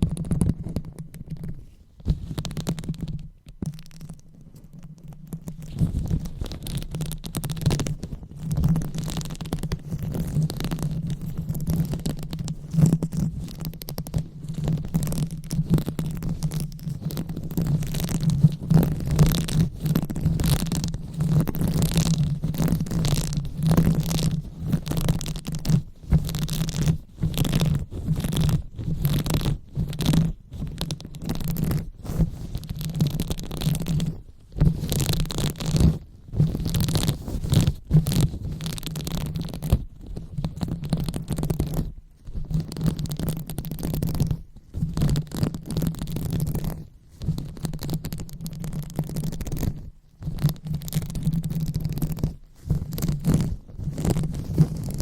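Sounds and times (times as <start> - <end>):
hands rubbing microphone: 0.0 - 55.0.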